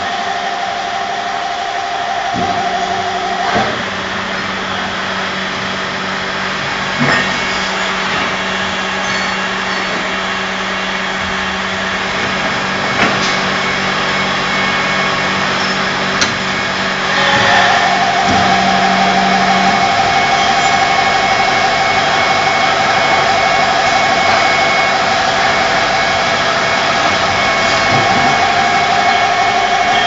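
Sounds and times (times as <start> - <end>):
drilling machine humming: 0.0 - 30.0.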